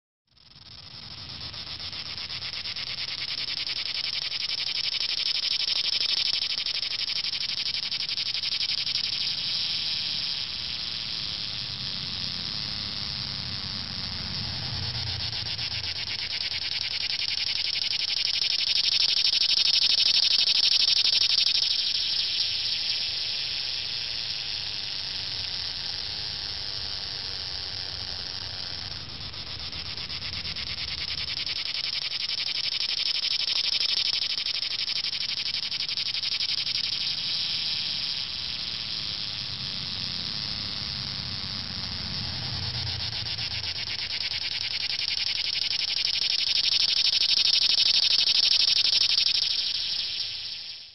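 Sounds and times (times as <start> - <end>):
cicadas buzzing: 0.3 - 50.9.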